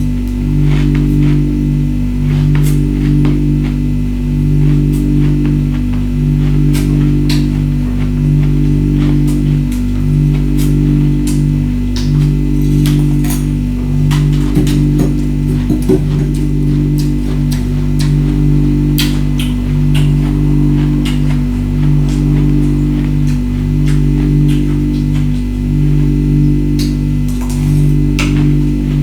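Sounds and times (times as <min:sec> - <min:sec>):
background music with bass: 0:00.0 - 0:29.0
ice crunching being chewed: 0:04.6 - 0:29.0.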